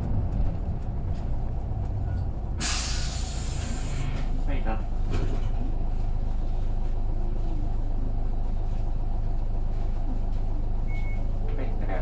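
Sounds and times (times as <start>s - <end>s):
diesel bus engine rumbling: 0.0s - 12.0s.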